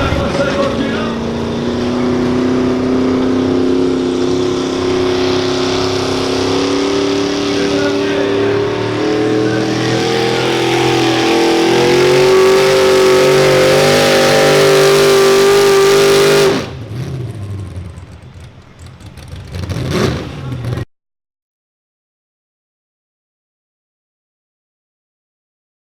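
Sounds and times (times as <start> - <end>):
tractor engine at full throttle: 0.0 - 20.8.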